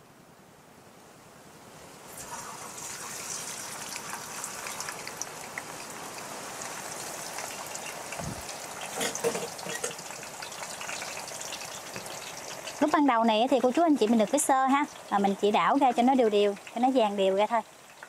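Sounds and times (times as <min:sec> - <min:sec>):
banana slices sizzling in oil: 0:02.1 - 0:18.0.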